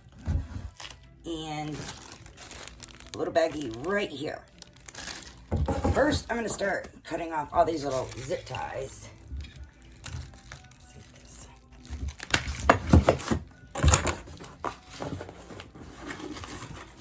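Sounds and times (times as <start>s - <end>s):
rustling and handling noise: 0.0s - 17.0s.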